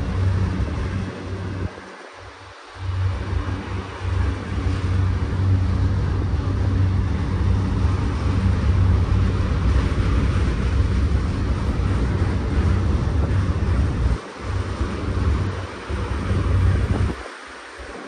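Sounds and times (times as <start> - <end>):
broad rushing noise: 0.0 - 18.0.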